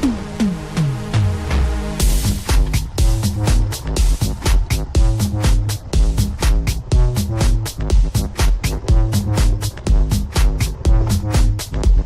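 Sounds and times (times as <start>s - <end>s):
dance music with fast beat: 0.0s - 12.0s.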